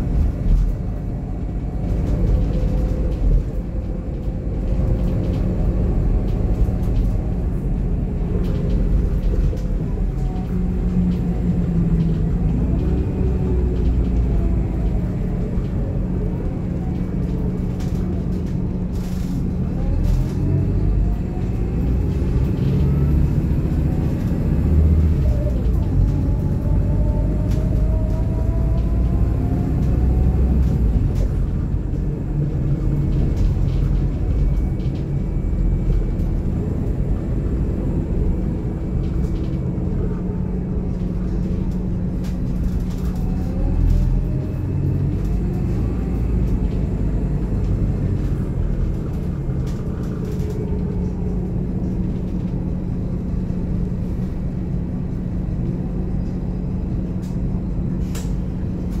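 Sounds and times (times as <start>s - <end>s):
diesel engine rumble from inside bus: 0.0s - 59.0s.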